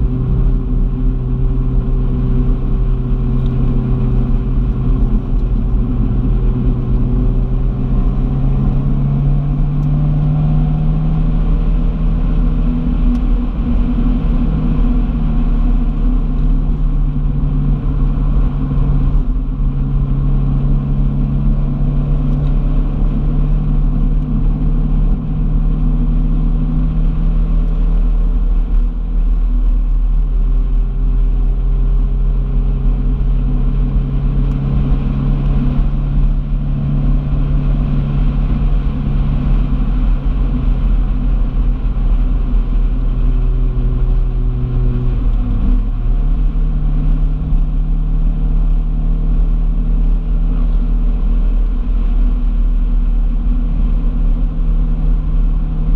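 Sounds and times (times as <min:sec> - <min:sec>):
car engine running: 0:00.0 - 0:55.9
low road rumble: 0:00.0 - 0:55.9.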